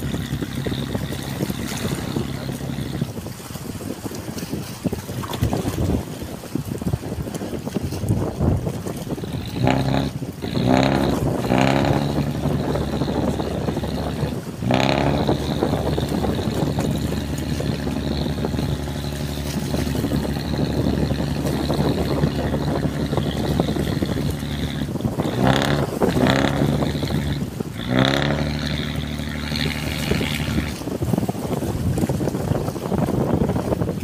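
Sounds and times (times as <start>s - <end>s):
boat diesel engine running: 0.0s - 34.0s.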